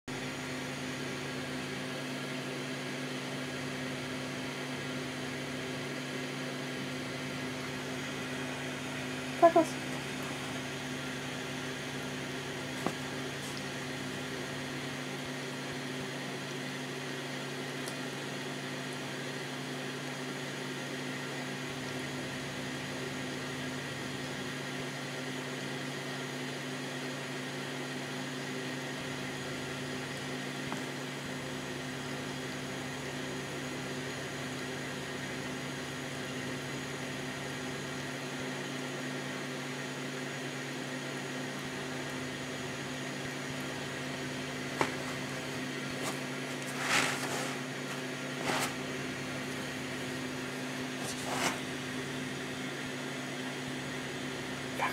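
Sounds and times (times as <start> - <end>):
steady low hum with hiss: 0.2 - 54.9.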